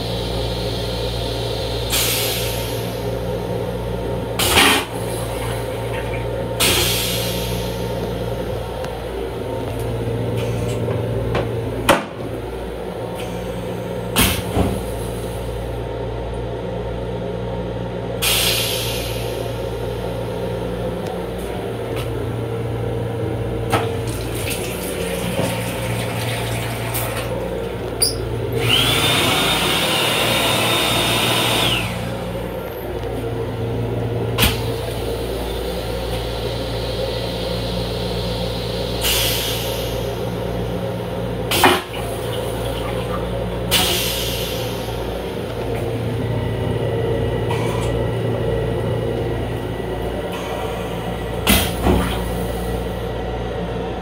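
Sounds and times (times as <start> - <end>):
electric railcar hum: 0.0 - 54.0.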